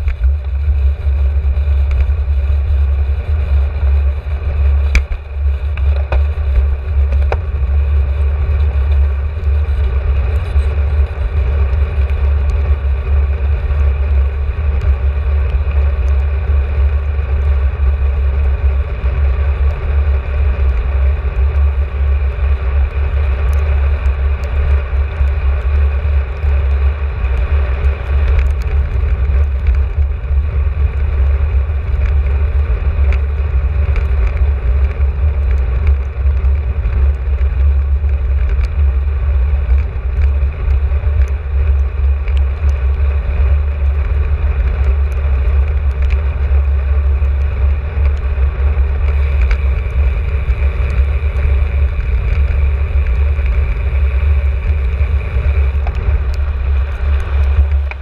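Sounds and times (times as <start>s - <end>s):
bicycle ticks and knocks: 0.0s - 58.0s
wind rumble on microphone: 0.0s - 58.0s.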